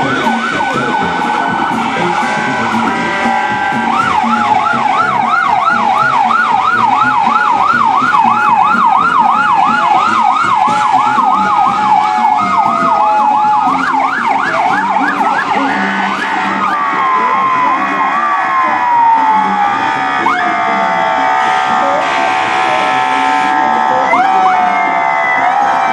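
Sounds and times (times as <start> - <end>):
fast yelp siren: 0.0 - 25.9
slow rising and falling siren: 0.0 - 25.9
steady siren tones: 0.0 - 25.9.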